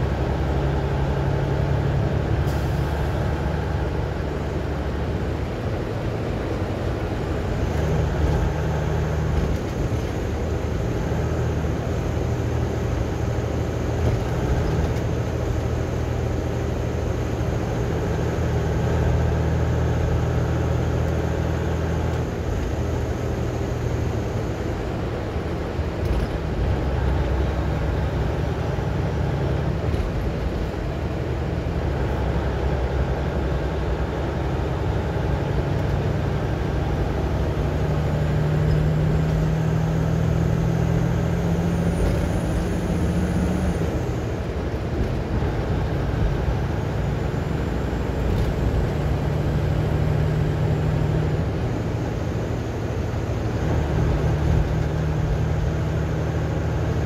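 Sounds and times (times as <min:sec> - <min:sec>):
road noise: 0:00.0 - 0:57.0
vehicle engine drone: 0:00.0 - 0:57.0.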